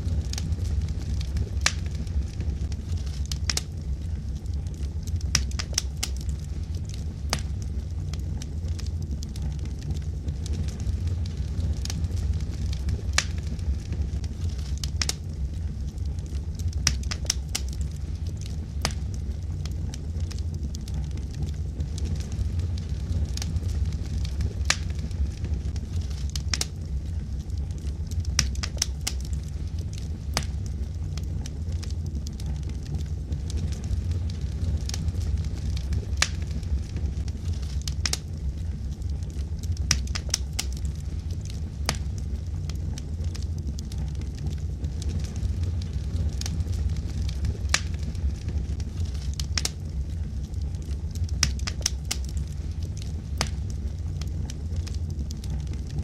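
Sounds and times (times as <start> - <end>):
fire flames rumbling: 0.0 - 56.0
wood crackling and popping: 0.0 - 56.0.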